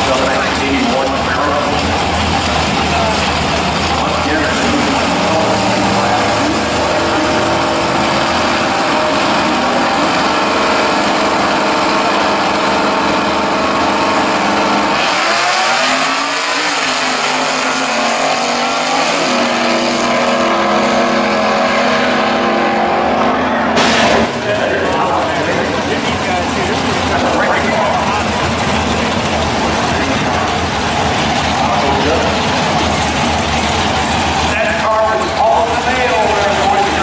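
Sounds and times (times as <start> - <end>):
drag racing cars accelerating: 0.0 - 37.0.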